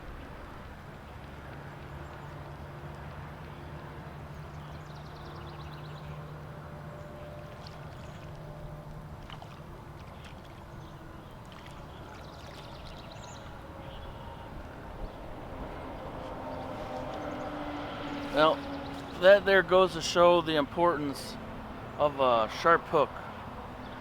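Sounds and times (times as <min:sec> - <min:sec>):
creek water gurgling: 0:00.0 - 0:24.0.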